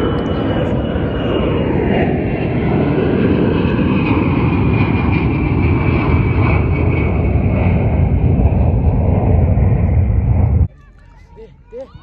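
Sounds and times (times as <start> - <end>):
jet plane flying overhead: 0.0 - 12.0.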